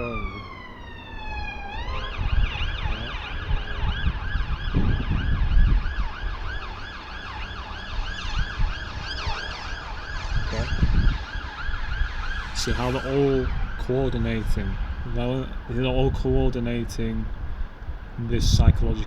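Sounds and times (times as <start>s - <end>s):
siren yelping: 0.0s - 18.1s
low rumble: 0.0s - 18.8s.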